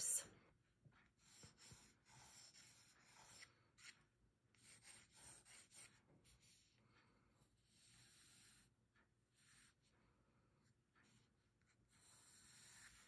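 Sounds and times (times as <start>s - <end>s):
pencil scratching on paper: 1.0s - 6.8s, 7.4s - 10.0s, 10.6s - 13.0s.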